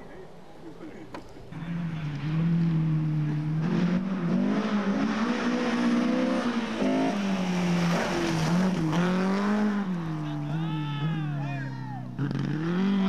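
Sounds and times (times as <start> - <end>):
rally car engine revving: 1.5 - 13.0.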